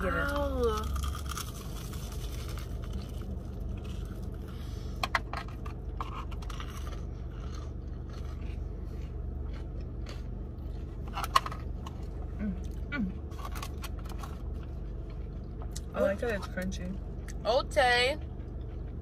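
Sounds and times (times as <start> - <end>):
steady low hum: 0.0 - 19.0
crunchy bites and chewing: 0.6 - 15.9.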